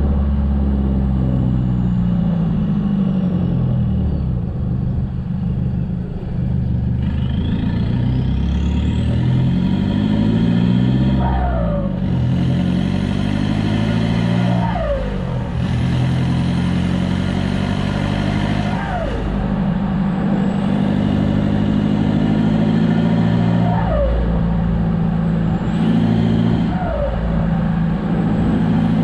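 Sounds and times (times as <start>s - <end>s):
diesel engine accelerating: 0.0s - 29.0s.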